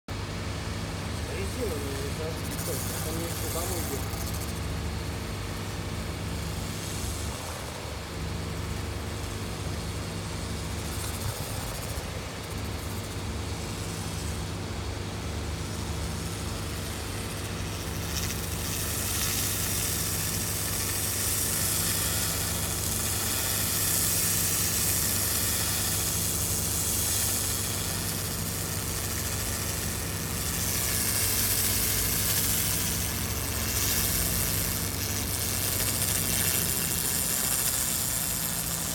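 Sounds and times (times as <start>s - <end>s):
low machine hum: 0.1s - 38.9s
laser cleaner hiss: 1.2s - 38.9s.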